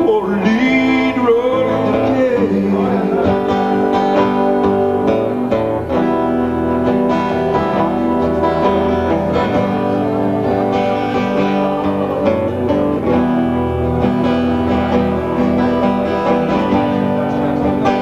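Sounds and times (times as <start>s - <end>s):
acoustic band music: 0.0s - 18.0s
strummed acoustic guitars: 0.0s - 18.0s.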